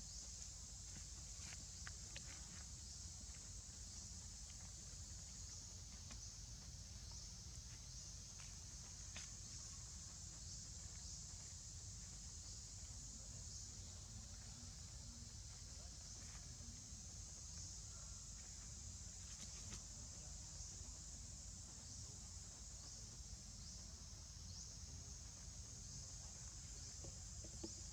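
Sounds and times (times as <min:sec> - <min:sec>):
insects droning: 0:00.0 - 0:27.9.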